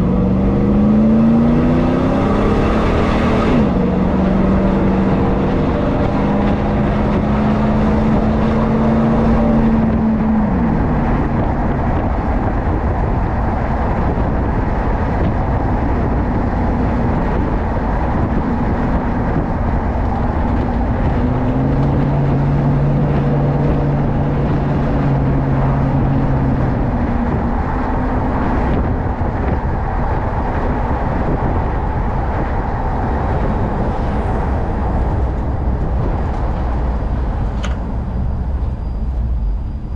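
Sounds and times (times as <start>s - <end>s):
road noise: 0.0s - 39.9s
truck engine droning: 0.0s - 39.9s.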